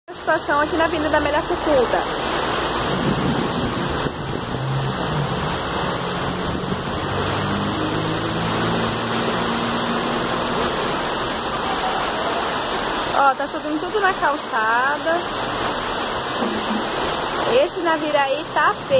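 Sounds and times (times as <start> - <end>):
torrential rain hissing: 0.1 - 18.9
water rushing along street: 0.1 - 18.9.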